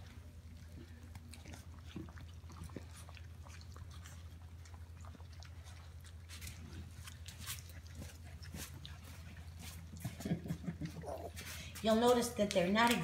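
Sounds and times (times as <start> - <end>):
puppies chewing and lapping food: 0.0 - 13.0.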